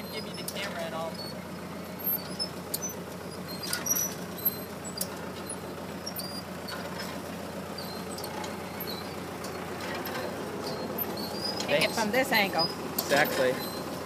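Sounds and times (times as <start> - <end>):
short high squeaks: 0.0 - 14.0
tractor engine running: 0.0 - 14.0.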